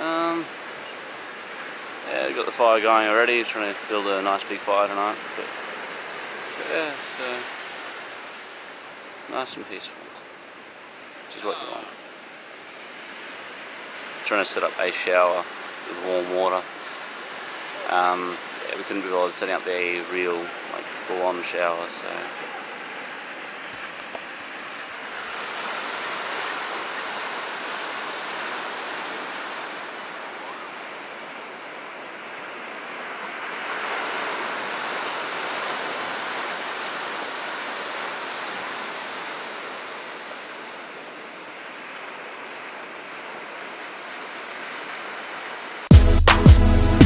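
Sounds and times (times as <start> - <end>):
waves breaking on beach: 0.0 - 46.4.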